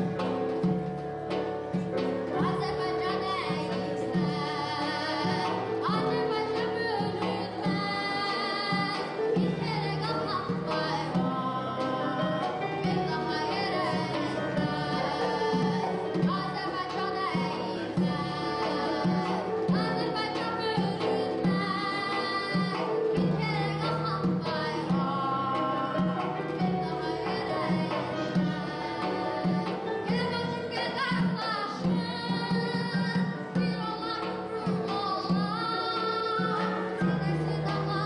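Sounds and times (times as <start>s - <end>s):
frame drum beat: 0.0s - 38.0s
instrumental music: 0.0s - 38.0s
girl singing a folk song: 1.8s - 38.0s.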